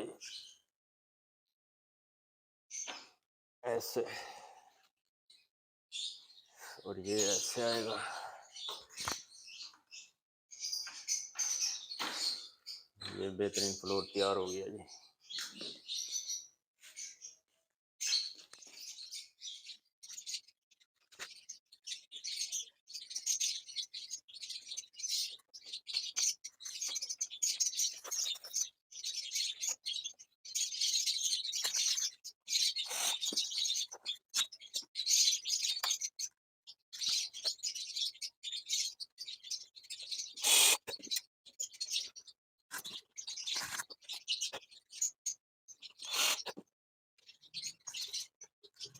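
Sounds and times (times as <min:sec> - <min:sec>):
small birds chirping: 0:00.0 - 0:00.7, 0:02.7 - 0:48.9.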